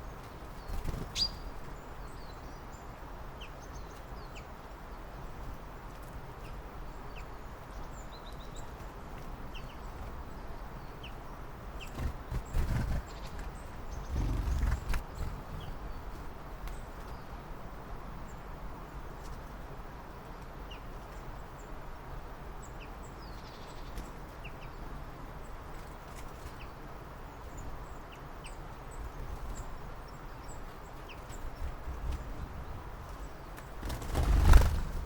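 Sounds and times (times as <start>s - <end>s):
small birds chirping: 0.0s - 17.6s, 18.2s - 35.0s.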